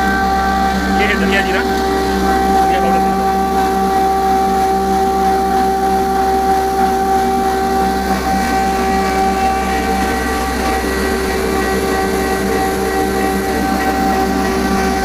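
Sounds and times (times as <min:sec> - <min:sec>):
spice grinder motor drone: 0:00.0 - 0:15.0
steady machine whine: 0:00.0 - 0:15.0.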